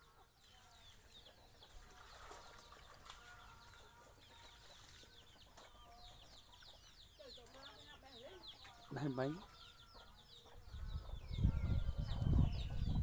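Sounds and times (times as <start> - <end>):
chicks cheeping: 0.1 - 13.0.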